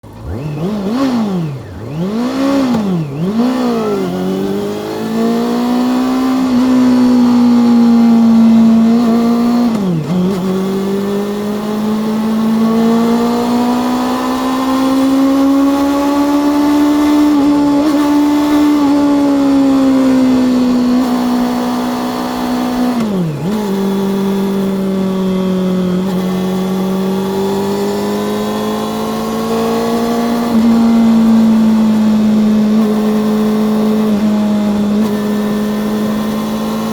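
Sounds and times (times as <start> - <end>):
motorcycle engine and exhaust: 0.0 - 36.9.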